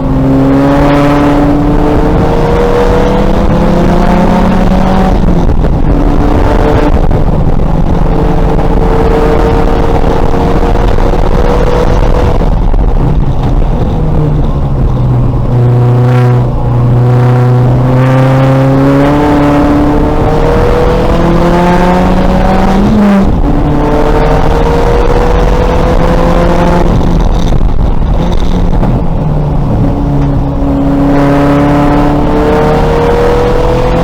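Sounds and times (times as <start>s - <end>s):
race car engine at full throttle: 0.0s - 34.0s.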